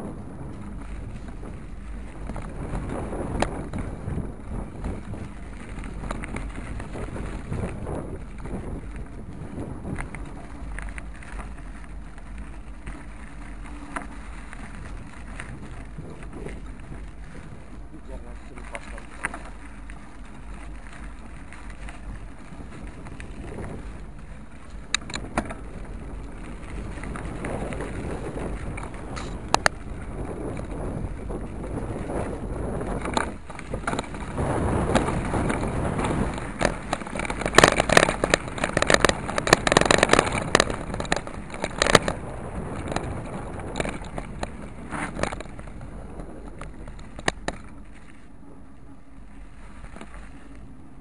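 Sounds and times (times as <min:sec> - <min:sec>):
wheels rolling over gravel: 0:00.0 - 0:51.0
wind on microphone: 0:00.0 - 0:51.0.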